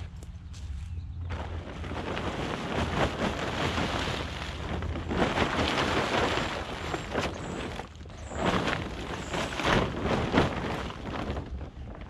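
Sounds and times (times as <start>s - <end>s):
tarp swishes: 1.3s - 11.7s
plastic tarp crinkling and rustling: 1.3s - 12.0s.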